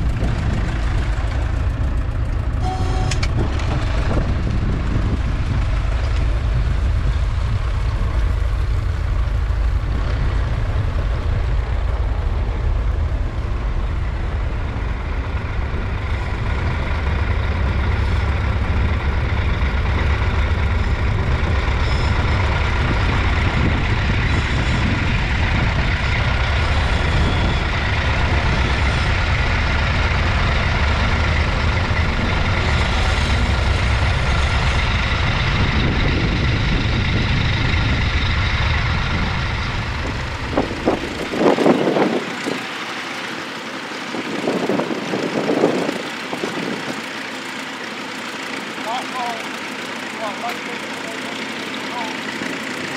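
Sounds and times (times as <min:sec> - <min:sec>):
tractor engine running under load: 0:00.0 - 0:52.9.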